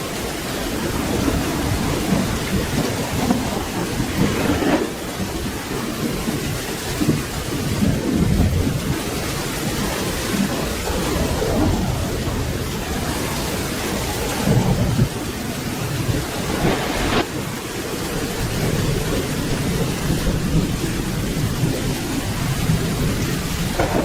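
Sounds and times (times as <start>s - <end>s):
steady rain falling: 0.0s - 24.0s
low thunder rumbling: 0.1s - 24.0s.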